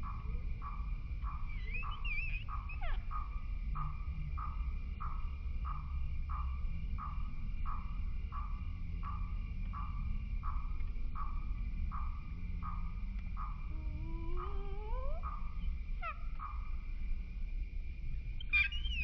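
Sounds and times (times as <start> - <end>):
warbling chirp: 0.0 - 16.8, 18.4 - 19.0
animal calling rhythmically: 0.0 - 17.1, 18.4 - 19.0
steady high hum: 0.0 - 19.0.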